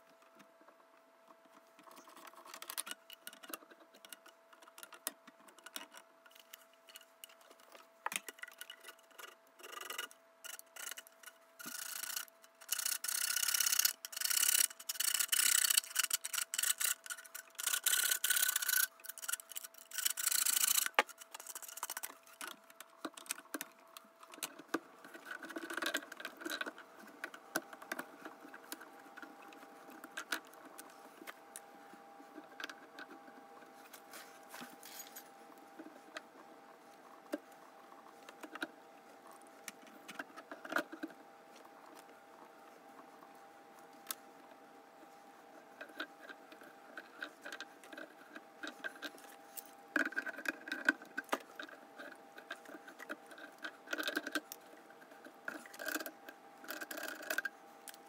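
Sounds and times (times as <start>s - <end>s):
faint steady hum: 0.0s - 58.0s
plastic pipes rubbing and clicking: 0.0s - 58.0s.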